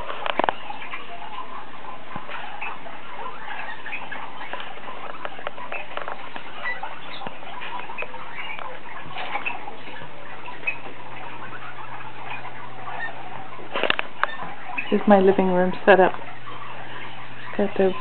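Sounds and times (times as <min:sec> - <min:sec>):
small birds chirping and twittering: 0:00.0 - 0:18.0.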